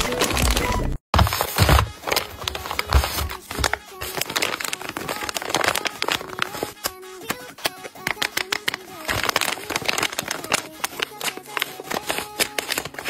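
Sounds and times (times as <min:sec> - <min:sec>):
paper bags crinkling: 0:00.0 - 0:13.0.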